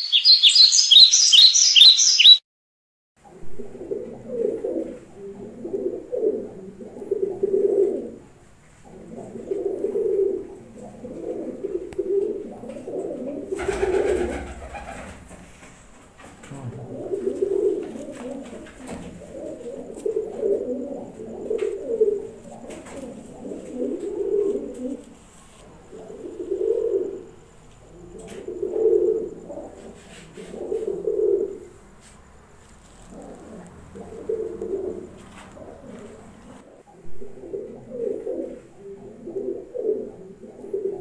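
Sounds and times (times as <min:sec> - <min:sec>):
pigeons cooing: 0:03.3 - 0:32.1, 0:32.8 - 0:41.0.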